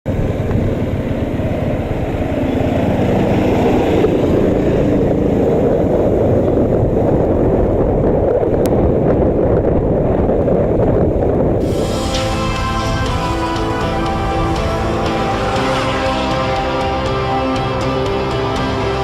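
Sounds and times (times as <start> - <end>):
motorcycle engine running: 0.1 - 8.0, 11.6 - 19.0
dense low rush: 0.1 - 19.0.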